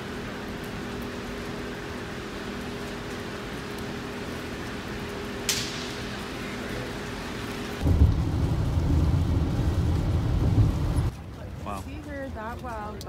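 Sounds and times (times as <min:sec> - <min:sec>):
rain on car windshield: 0:00.0 - 0:11.1
sharp crackle: 0:00.0 - 0:11.1
road rumble: 0:00.0 - 0:13.0
steady low hum: 0:00.0 - 0:13.0.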